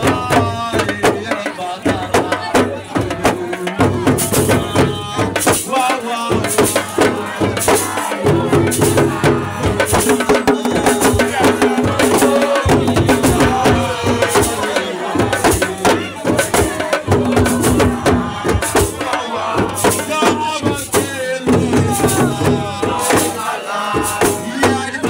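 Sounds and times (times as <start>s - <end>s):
fast drumming and percussion: 0.0s - 25.0s
people singing: 0.0s - 25.0s.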